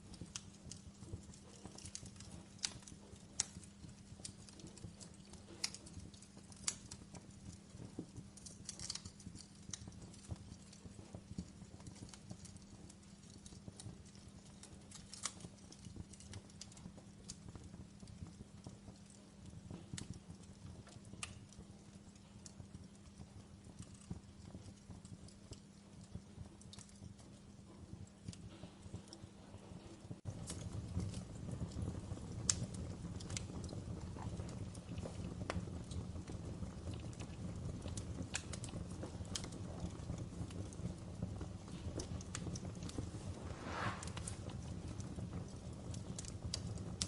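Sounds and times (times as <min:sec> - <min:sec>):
fire crackling and popping: 0:00.0 - 0:47.0
low rumble of flame: 0:00.0 - 0:47.0.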